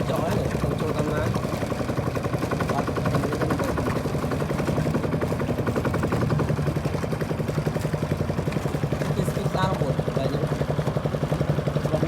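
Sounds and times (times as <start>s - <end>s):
small boat engine chugging: 0.0s - 12.0s.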